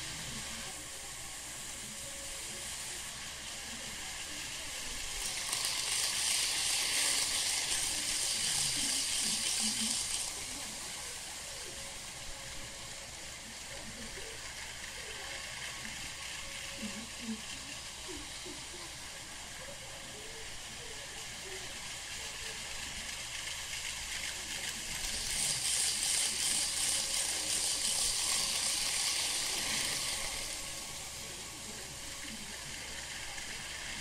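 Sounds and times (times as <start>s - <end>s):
model train whirring on track: 0.0s - 34.0s.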